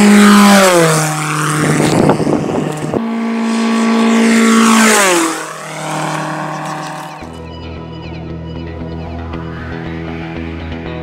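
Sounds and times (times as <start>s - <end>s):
propeller plane flying low past: 0.0s - 11.0s.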